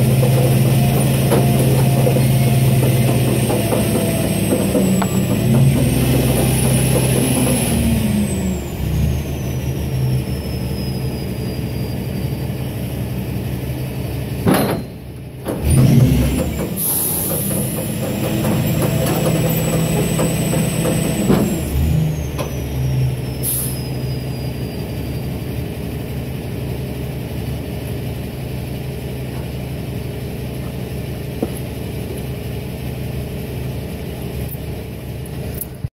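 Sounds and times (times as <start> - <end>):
truck diesel engine with whine: 0.0 - 35.9.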